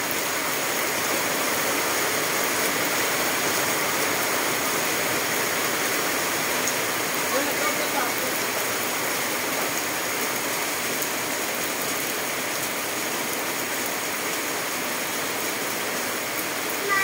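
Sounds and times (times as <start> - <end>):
heavy rain on foliage: 0.0 - 17.0.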